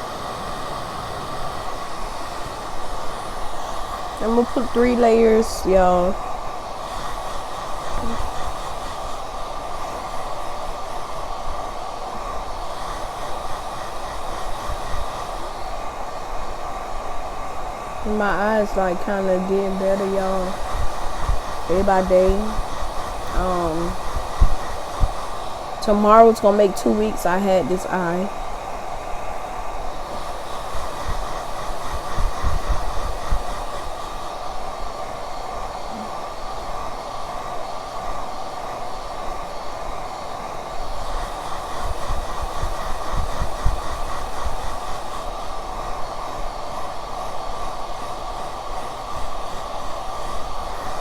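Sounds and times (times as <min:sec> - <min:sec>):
low thumps of air buffeting: 0:00.0 - 0:37.0, 0:40.7 - 0:45.9
hair dryer running: 0:00.0 - 0:51.0.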